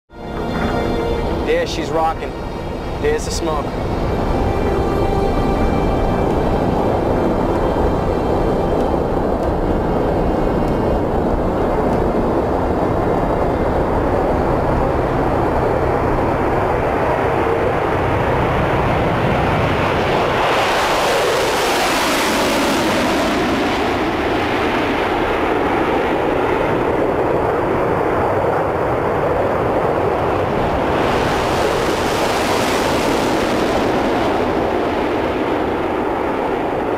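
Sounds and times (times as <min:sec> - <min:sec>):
loud jet engine noise: 0:00.1 - 0:36.9.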